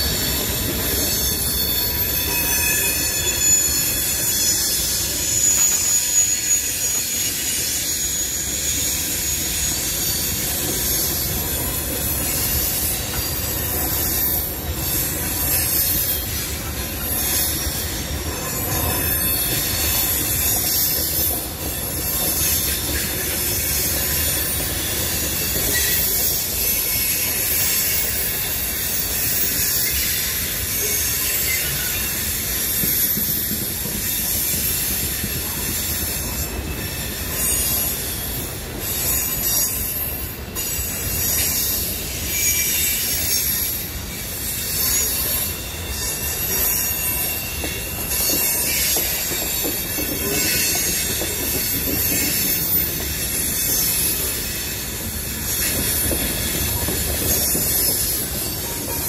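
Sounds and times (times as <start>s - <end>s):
high-pitched wheel squeal: 0.0s - 59.0s
rumble of train wheels on rails: 0.0s - 59.0s.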